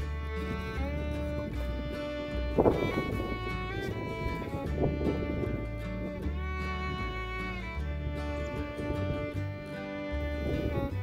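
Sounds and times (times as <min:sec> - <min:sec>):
bowed strings holding notes: 0:00.0 - 0:11.0.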